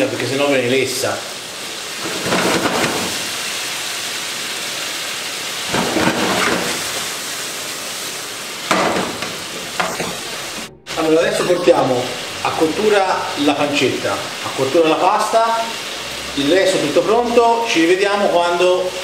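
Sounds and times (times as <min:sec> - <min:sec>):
meat sizzling in a frying pan: 0:00.0 - 0:10.5, 0:11.9 - 0:19.0.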